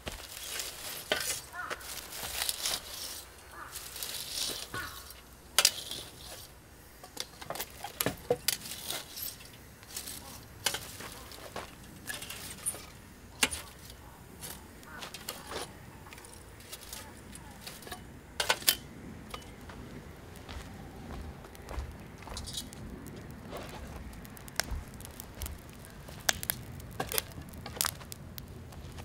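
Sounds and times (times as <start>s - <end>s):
fire pops: 0.0s - 29.0s
wood fire crackling: 0.0s - 29.0s.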